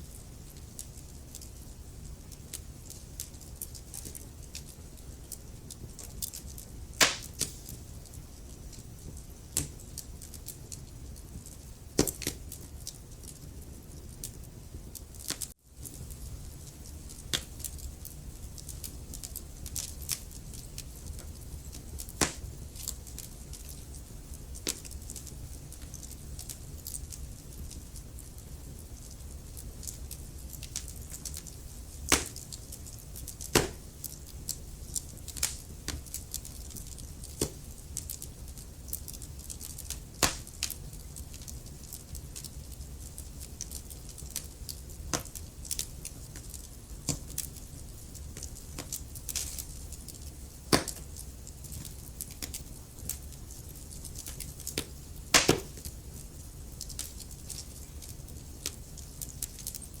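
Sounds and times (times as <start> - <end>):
low rumble of flames: 0.0 - 60.0
wood fire crackling: 0.0 - 60.0
sharp pops from fire: 0.2 - 60.0.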